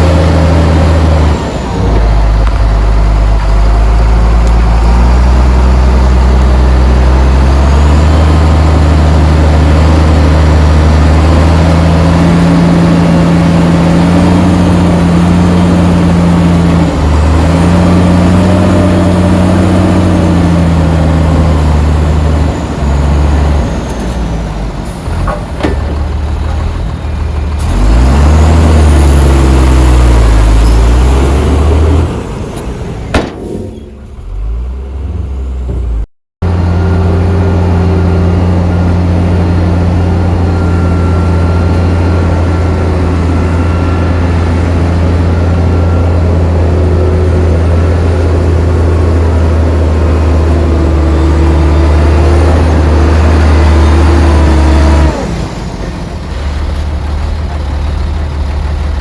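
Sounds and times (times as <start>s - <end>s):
heavy diesel engines working: 0.0s - 59.0s.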